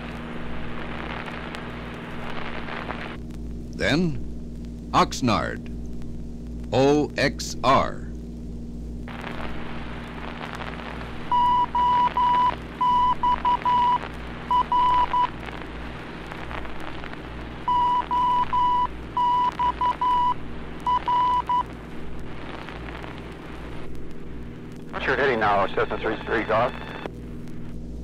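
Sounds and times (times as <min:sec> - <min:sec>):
steady hum and static: 0:00.0 - 0:28.0.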